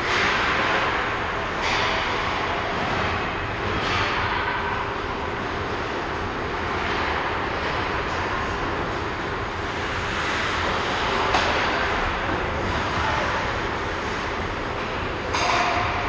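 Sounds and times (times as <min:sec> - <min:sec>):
ice rink crowd roar: 0:00.0 - 0:16.0.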